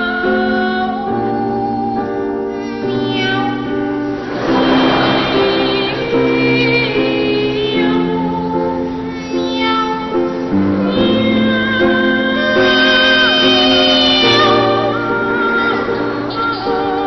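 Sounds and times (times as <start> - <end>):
grand piano: 0.0 - 17.0.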